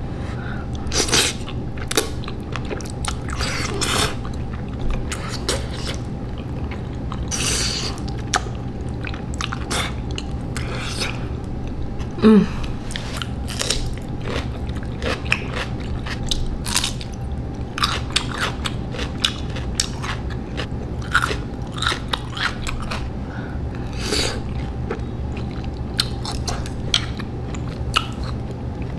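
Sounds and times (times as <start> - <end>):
steady low hum: 0.0 - 28.9
person chewing noodles: 0.7 - 23.1, 23.7 - 28.9.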